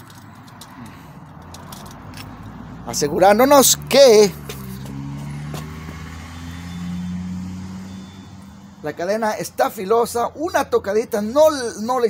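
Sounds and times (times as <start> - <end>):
vehicle engine humming: 0.0 - 11.9.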